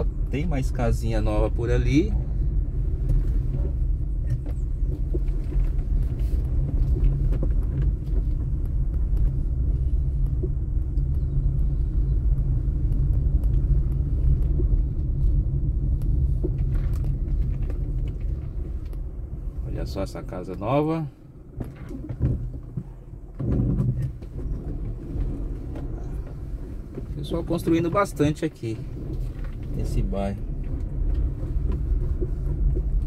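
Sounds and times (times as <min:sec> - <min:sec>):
car engine hum: 0:00.0 - 0:33.0.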